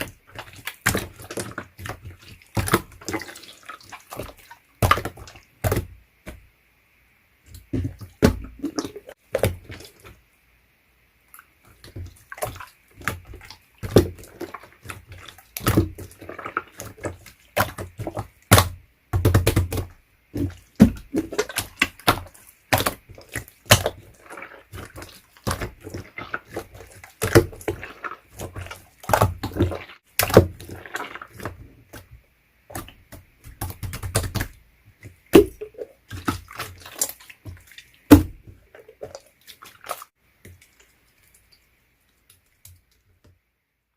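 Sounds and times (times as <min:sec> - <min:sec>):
hands squishing slime: 0:00.0 - 0:06.4, 0:11.3 - 0:41.6.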